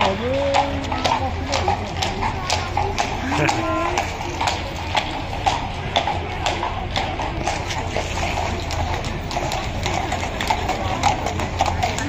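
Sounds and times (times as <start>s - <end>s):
background noise: 0.0s - 12.0s
horse hooves clip-clopping: 0.0s - 12.0s.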